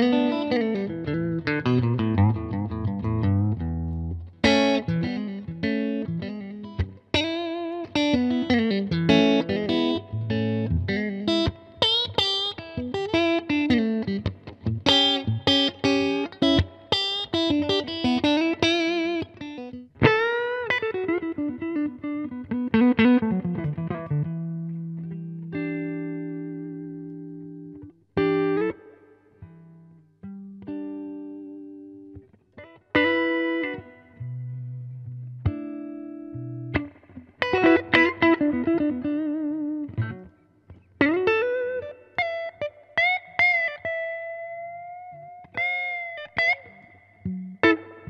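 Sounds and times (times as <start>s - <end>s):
clean electric guitar solo: 0.0s - 48.0s.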